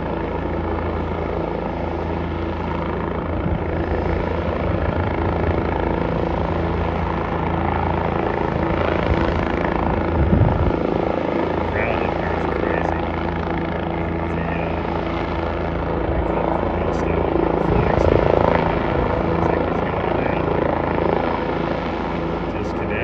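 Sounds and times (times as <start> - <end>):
helicopter drone: 0.0 - 23.0.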